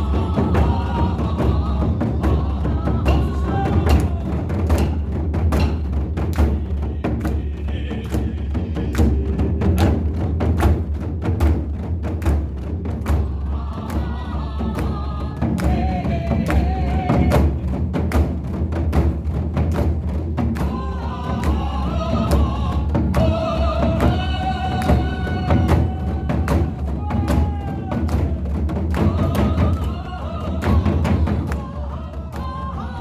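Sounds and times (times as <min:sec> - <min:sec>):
drum booming: 0:00.0 - 0:33.0.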